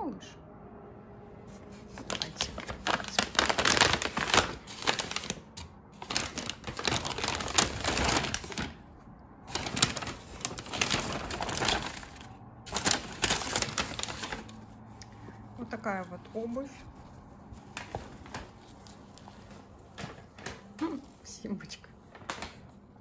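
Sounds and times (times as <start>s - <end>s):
paper bag rustling: 1.5s - 23.0s.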